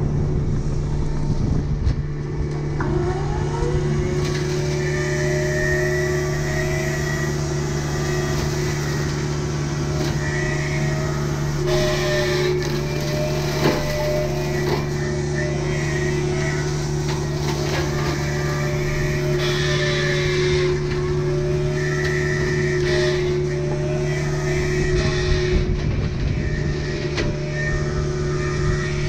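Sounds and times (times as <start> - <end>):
diesel engine running: 0.0 - 29.0
hydraulic brush cutter whine: 0.0 - 29.0.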